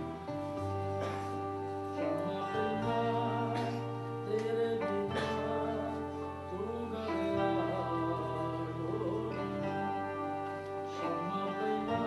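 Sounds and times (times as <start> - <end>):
slow held chords: 0.0 - 12.0.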